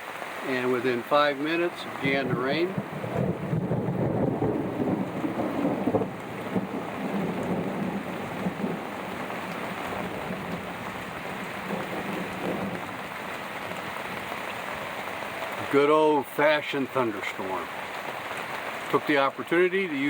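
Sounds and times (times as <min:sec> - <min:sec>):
heavy rain on a boat: 0:00.0 - 0:20.0.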